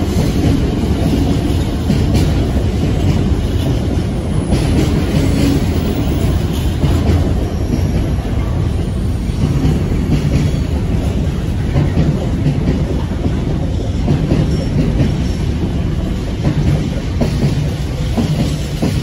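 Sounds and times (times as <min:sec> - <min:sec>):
freight train wheels rumbling on rail: 0:00.0 - 0:19.0
wheels clacking over rail joints: 0:00.0 - 0:19.0.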